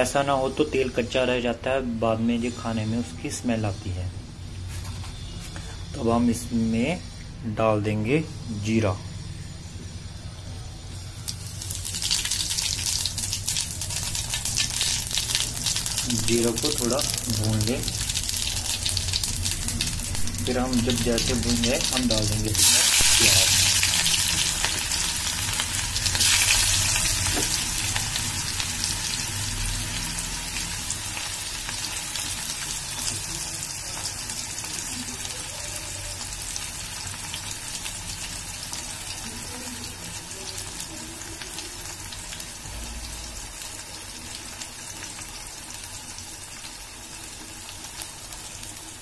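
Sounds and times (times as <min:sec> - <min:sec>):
onions sizzling in hot oil: 0:08.4 - 0:49.0.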